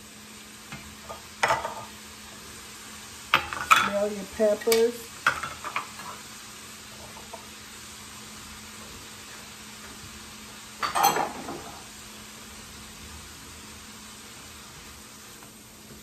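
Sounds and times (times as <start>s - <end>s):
meat and peppers sizzling in a pan: 0.0s - 16.0s.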